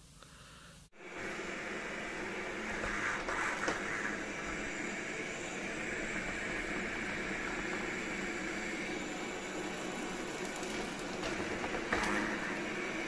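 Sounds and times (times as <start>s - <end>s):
robot vacuum whirring hum: 0.9s - 13.0s.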